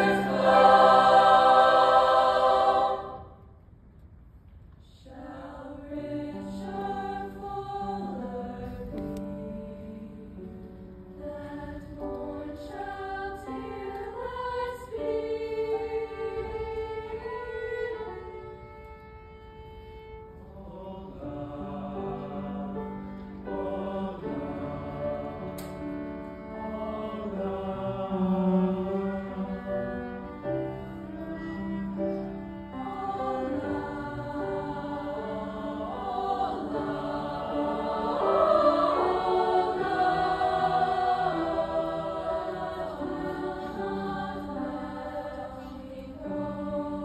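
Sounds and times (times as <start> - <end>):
cello playing sustained notes: 0.0 - 3.2, 12.4 - 47.0
choir singing held chords: 0.0 - 3.6, 5.0 - 18.7, 20.4 - 31.4, 32.4 - 47.0.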